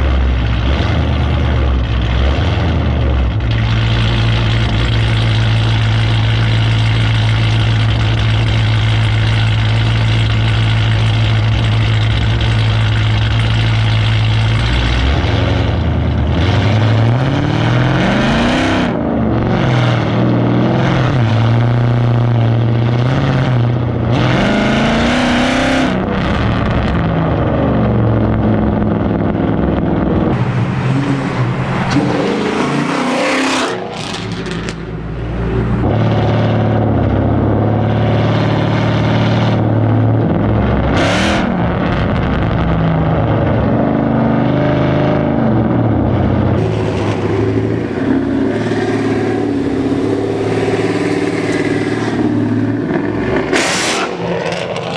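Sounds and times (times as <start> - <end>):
exhaust cracks: 0.0 - 44.5, 45.3 - 54.9
car exhaust revving: 0.0 - 54.9.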